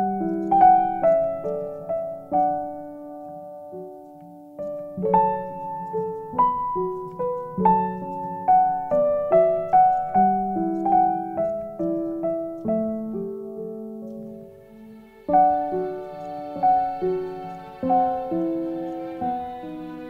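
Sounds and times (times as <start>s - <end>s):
piano single notes: 0.0s - 20.0s.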